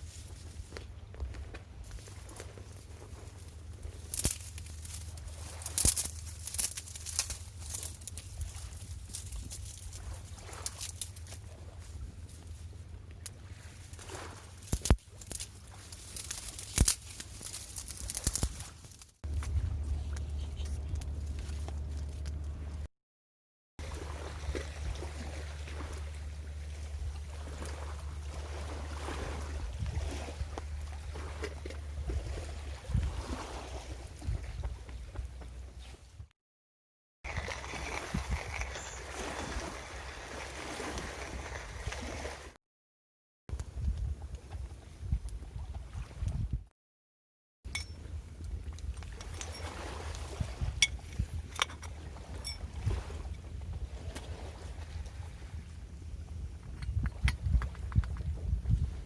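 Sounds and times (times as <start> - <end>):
wind rumbling on microphone: 0.0 - 22.9, 23.8 - 36.3, 37.3 - 42.5, 43.5 - 46.7, 48.0 - 59.0.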